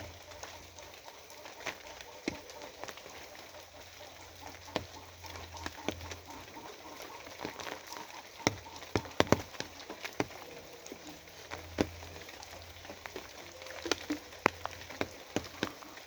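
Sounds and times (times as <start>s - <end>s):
rain hissing: 0.0s - 16.0s
heavy drops ticking on hard surface: 1.7s - 16.0s.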